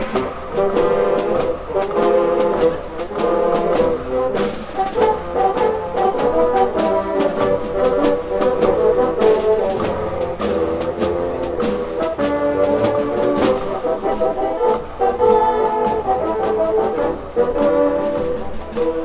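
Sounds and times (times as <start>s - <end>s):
bassoons playing in harmony: 0.0s - 19.0s
drum steady beat: 0.0s - 19.0s.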